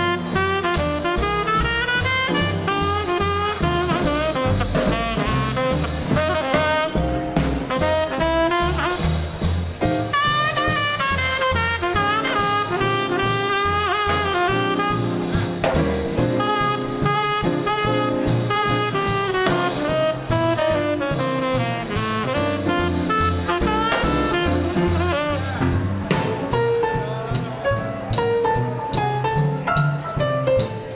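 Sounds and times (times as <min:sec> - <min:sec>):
saxophone melody: 0:00.0 - 0:09.4, 0:10.0 - 0:25.6
trumpet melody: 0:00.0 - 0:25.8
bass pulse: 0:00.0 - 0:30.9
drums: 0:00.0 - 0:30.9
piano: 0:00.0 - 0:30.9.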